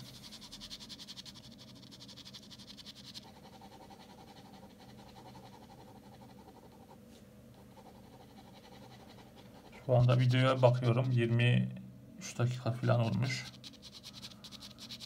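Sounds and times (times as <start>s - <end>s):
pen scratching on paper: 0.0s - 11.4s, 12.8s - 15.0s.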